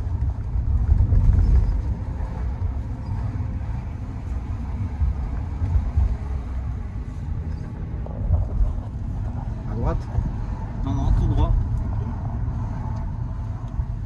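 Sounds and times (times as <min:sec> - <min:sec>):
car cabin engine and road rumble: 0:00.0 - 0:14.0.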